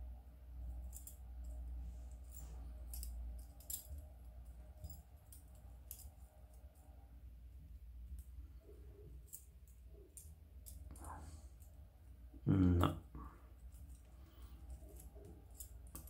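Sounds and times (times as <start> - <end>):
steady low hum: 0.0 - 16.0
metal wire puzzle clinking: 0.6 - 7.2, 7.8 - 12.1, 13.5 - 16.0.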